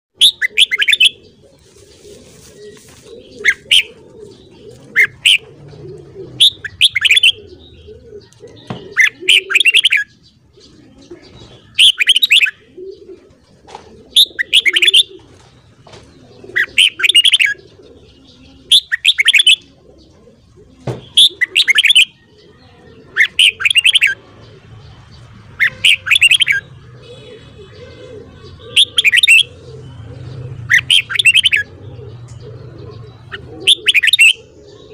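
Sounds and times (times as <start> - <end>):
bird singing chattering song: 0.2 - 13.2, 14.2 - 34.9.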